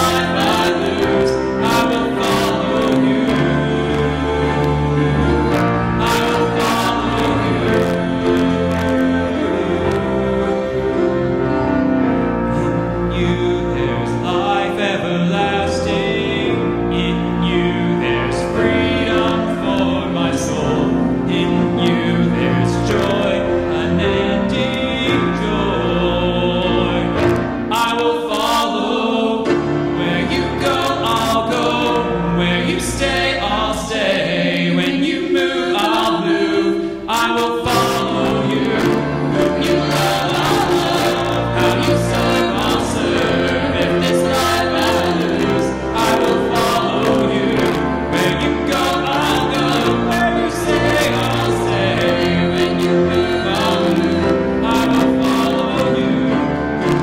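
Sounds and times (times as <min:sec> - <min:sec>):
band playing worship music: 0:00.0 - 0:57.0
voices singing: 0:00.0 - 0:57.0.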